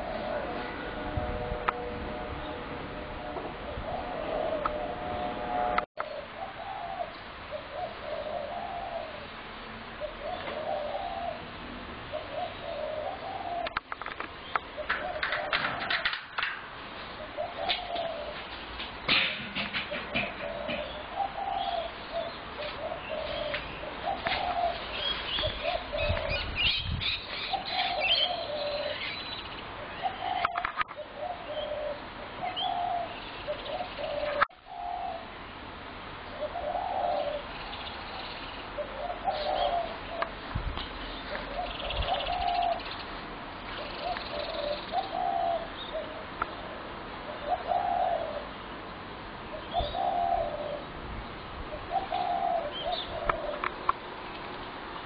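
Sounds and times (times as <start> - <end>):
doves cooing: 0.0 - 35.4, 36.3 - 37.8, 38.6 - 40.4, 41.1 - 43.0, 43.7 - 48.6, 49.5 - 54.1.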